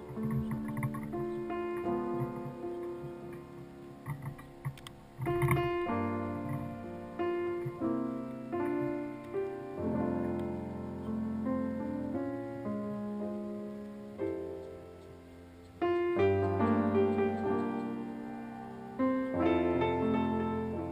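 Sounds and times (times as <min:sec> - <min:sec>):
gentle piano chords: 0:00.0 - 0:20.9.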